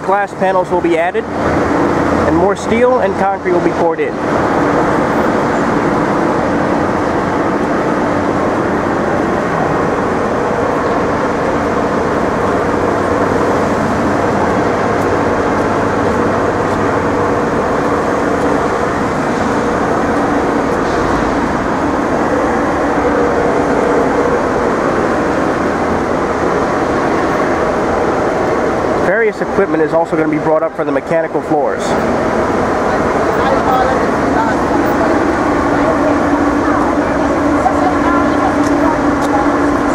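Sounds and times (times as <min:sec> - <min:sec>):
vehicle rumble and hum: 0:00.0 - 0:39.9.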